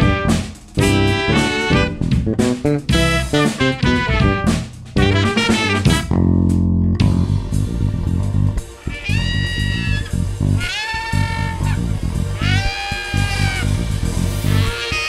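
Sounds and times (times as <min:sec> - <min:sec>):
bass guitar notes: 0:00.0 - 0:14.8
jazz fusion band playing: 0:00.0 - 0:15.0.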